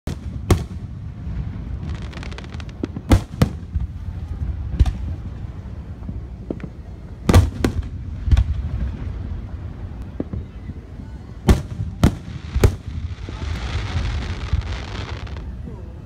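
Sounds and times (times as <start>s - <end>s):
rapid firework crackles: 0.1s - 10.5s, 11.4s - 15.6s.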